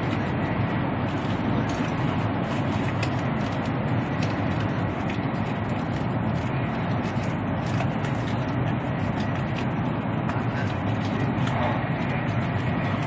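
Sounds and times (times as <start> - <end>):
high-speed train rumbling: 0.0 - 13.0.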